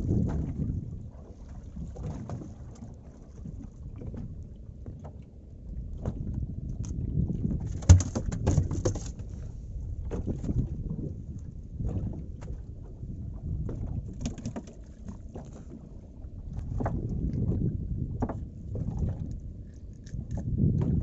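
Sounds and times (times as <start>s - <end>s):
knocks and taps on boat: 0.0s - 19.4s, 20.1s - 21.0s
wind and water rumble: 0.0s - 21.0s.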